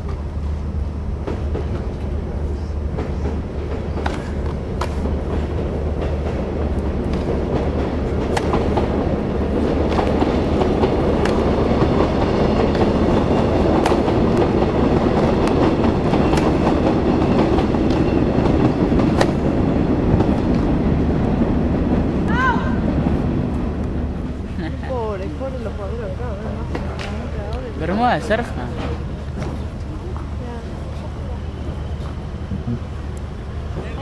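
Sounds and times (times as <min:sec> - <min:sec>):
steady rumble: 0:00.0 - 0:34.0.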